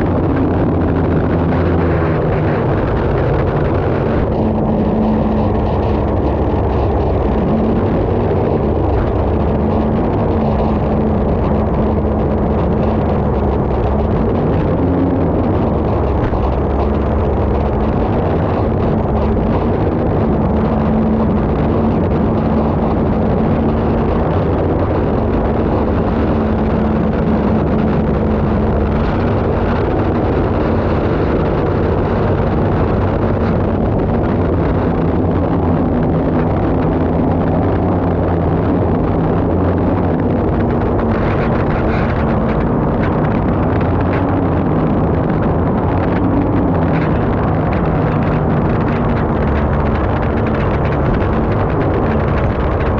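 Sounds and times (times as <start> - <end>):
turbine engine roaring: 0.0 - 52.9.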